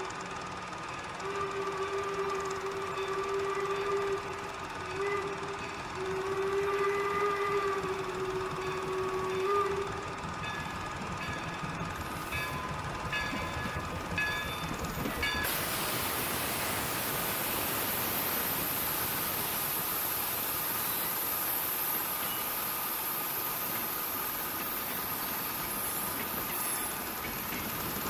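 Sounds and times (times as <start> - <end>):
steam train rolling on rails: 0.0 - 28.0
steam hissing: 1.3 - 28.0.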